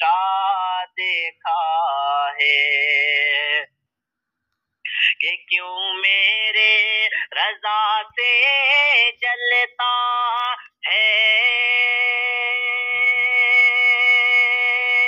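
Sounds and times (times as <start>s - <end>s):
person singing devotional song: 0.0s - 3.8s, 4.9s - 15.0s.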